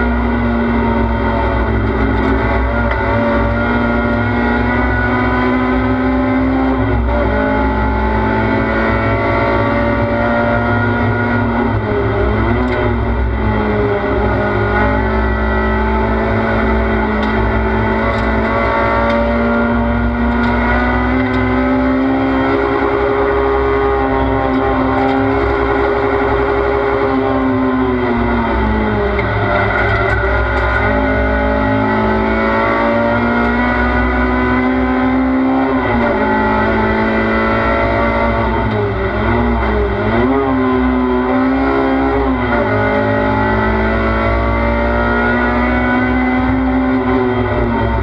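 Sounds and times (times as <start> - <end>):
low road rumble: 0.0 - 48.0
race car engine at high revs: 0.0 - 48.0.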